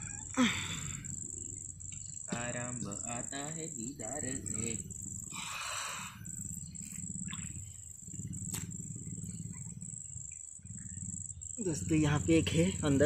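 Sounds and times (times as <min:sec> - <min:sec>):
insects trilling: 0:00.0 - 0:13.0
low pulsing animal drone: 0:00.0 - 0:13.0.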